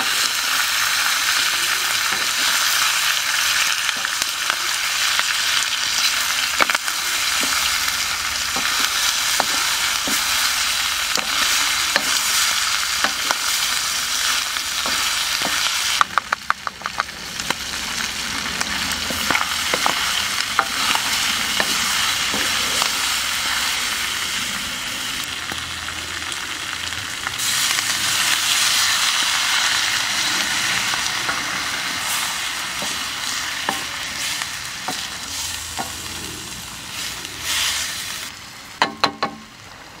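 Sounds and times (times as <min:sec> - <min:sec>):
meat sizzling in a wok: 0:00.0 - 0:40.0.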